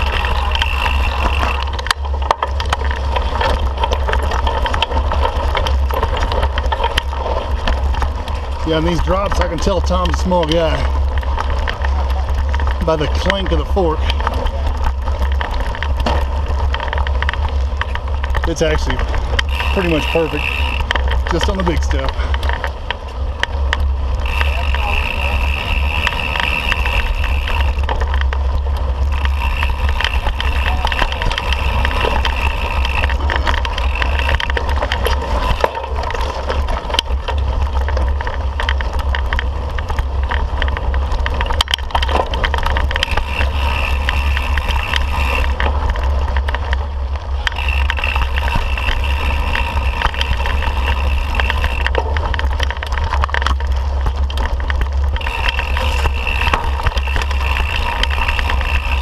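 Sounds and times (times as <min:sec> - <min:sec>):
bike rattling over bumps: 0:00.0 - 0:59.0
bike tyres on dirt: 0:00.0 - 0:59.0.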